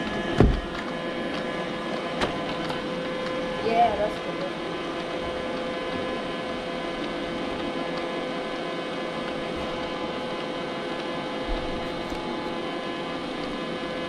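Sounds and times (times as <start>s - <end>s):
robot vacuum cleaner whirring: 0.0s - 14.0s.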